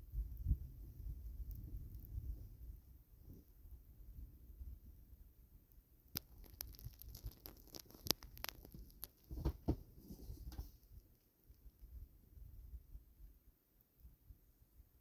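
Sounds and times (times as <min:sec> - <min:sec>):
wind rumble on microphone: 0:00.0 - 0:13.4.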